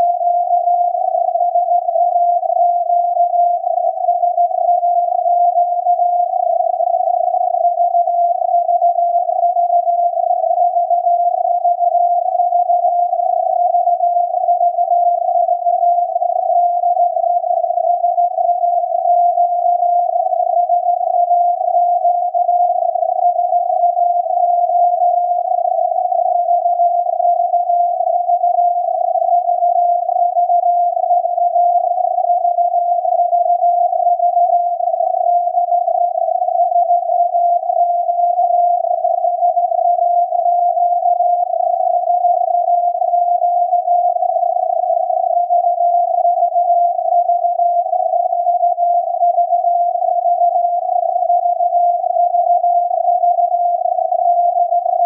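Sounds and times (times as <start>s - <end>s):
wavering radio tone: 0.0s - 55.0s.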